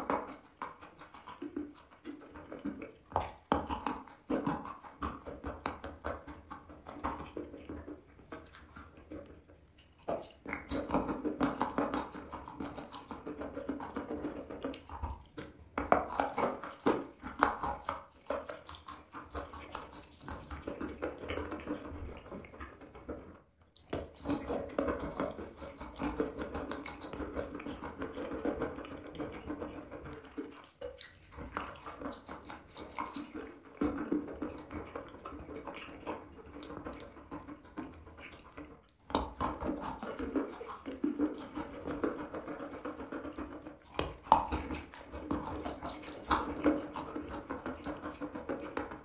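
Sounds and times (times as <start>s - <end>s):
chewing chalk: 0.0s - 49.0s
mouth clicks: 0.0s - 49.0s.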